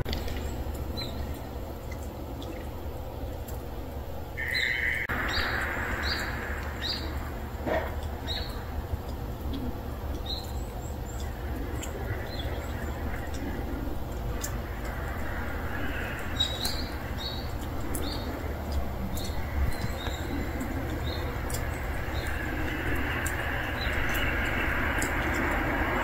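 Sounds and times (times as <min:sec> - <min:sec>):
small birds chirping: 0:00.0 - 0:26.0
steady low rumble: 0:00.0 - 0:26.0
broad rushing noise: 0:04.4 - 0:10.2, 0:10.9 - 0:26.0.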